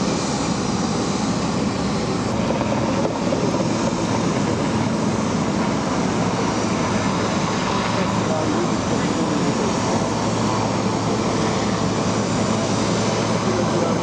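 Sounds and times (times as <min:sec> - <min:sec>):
helicopter rotor and turbine: 0:00.0 - 0:14.0.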